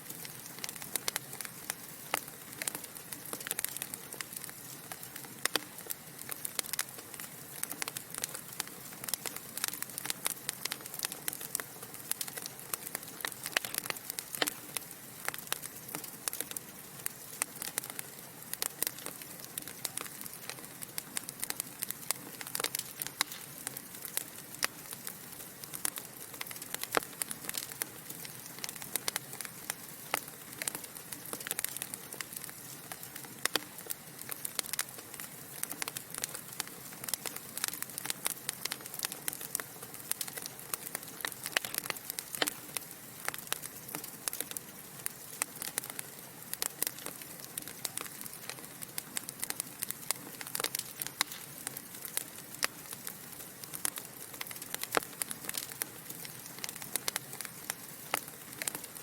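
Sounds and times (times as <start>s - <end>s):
logs crackling in a fireplace: 0.0s - 59.0s
soft steady hiss: 0.0s - 59.0s.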